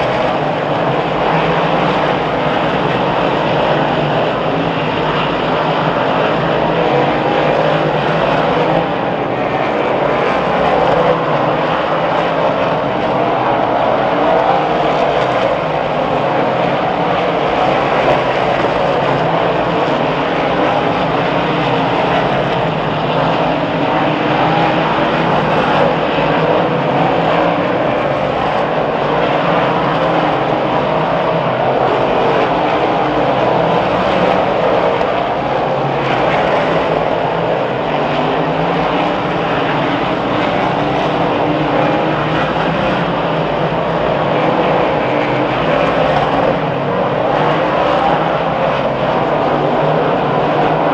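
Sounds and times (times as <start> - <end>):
race car engines roaring: 0.0 - 50.9.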